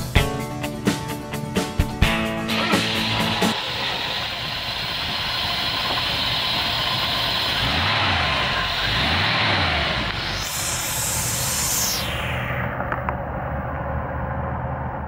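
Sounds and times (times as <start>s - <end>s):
car engine idling: 2.5s - 15.0s.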